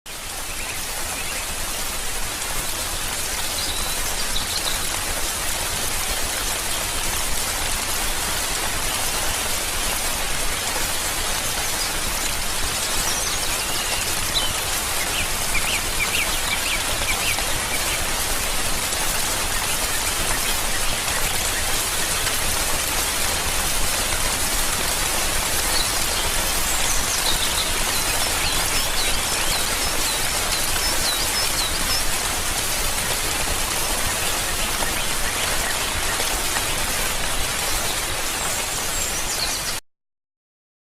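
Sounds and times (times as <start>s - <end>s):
steady rain falling: 0.1s - 39.8s.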